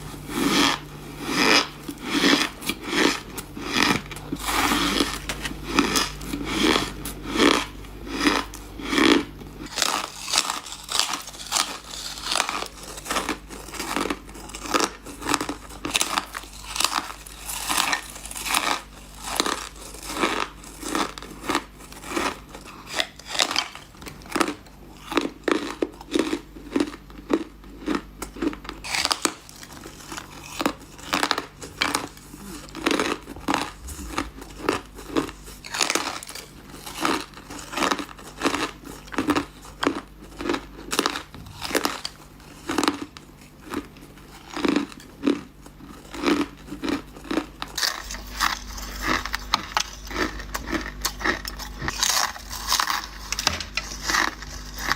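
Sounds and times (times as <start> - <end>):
person crunching ice: 0.0 - 54.9.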